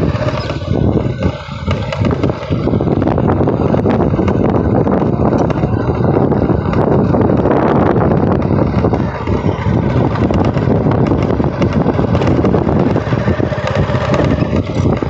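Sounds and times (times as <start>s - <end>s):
road vehicle running: 0.0s - 15.0s
wind buffeting microphone: 0.0s - 15.0s.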